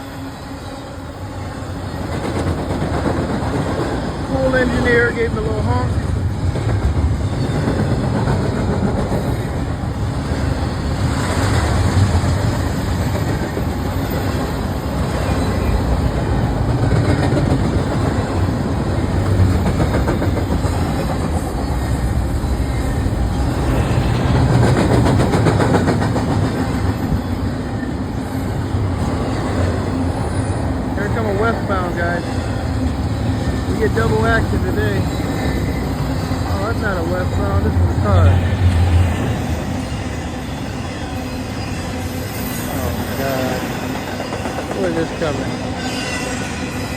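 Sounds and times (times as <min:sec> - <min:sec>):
freight train rumbling by: 0:00.0 - 0:46.9.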